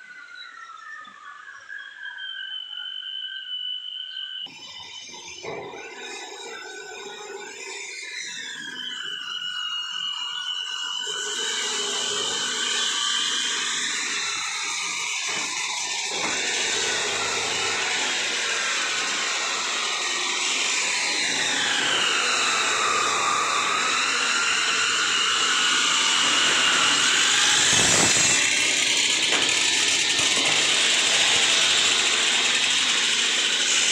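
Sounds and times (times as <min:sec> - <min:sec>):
power tool whining on wood: 0:04.4 - 0:33.9.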